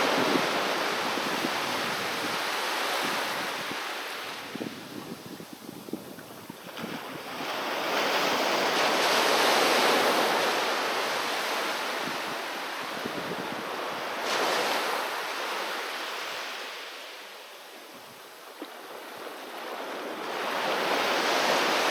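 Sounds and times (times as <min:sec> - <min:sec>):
sea waves breaking on beach: 0:00.0 - 0:21.9.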